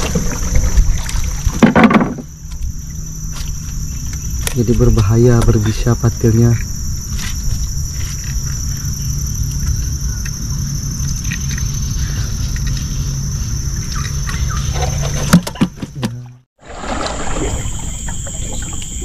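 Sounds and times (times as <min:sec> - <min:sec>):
insects chorus: 0:00.0 - 0:16.0, 0:16.6 - 0:19.0.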